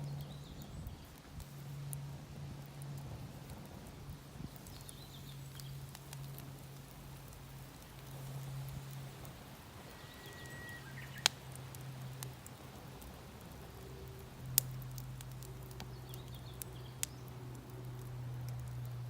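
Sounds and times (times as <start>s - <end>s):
firewood crackling: 0.0s - 19.0s
low steady hum: 0.0s - 19.0s
sharp pops of fire: 0.8s - 19.0s.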